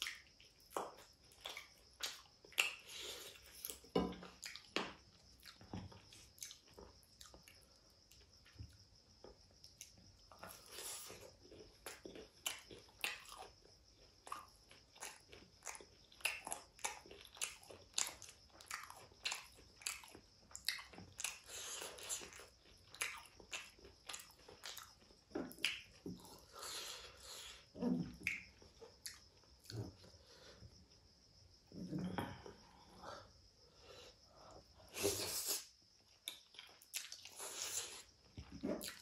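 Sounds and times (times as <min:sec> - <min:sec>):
chewing crunchy fried chicken: 0:00.0 - 0:30.0, 0:35.0 - 0:39.0.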